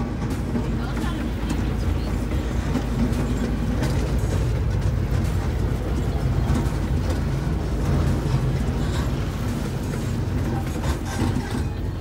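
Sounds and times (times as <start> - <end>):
ride train rumble: 0.0 - 12.0.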